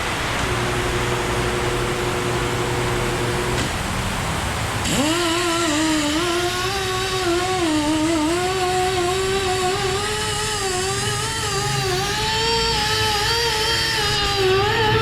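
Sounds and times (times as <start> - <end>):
electric motor whine: 0.0 - 4.0, 4.6 - 15.0.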